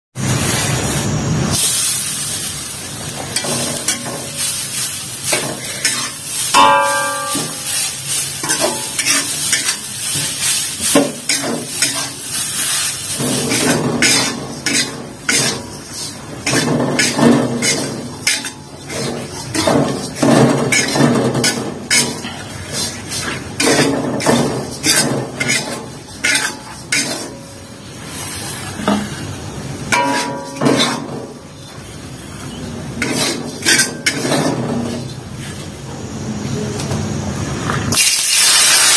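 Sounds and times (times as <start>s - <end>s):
metal spatula scraping wok: 0.2s - 35.8s.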